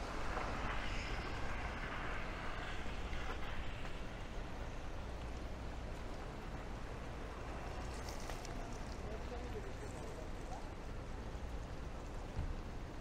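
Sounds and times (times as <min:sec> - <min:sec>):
low city rumble: 0:00.0 - 0:13.0
rain on a street: 0:00.0 - 0:13.0.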